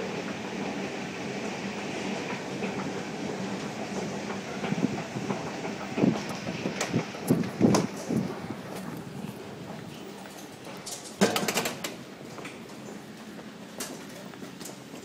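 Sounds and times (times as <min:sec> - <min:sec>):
escalator rumble and hum: 0:00.0 - 0:14.8.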